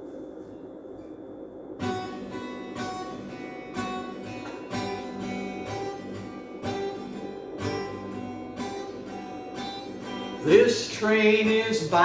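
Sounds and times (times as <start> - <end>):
acoustic guitar strumming: 1.8 - 12.0.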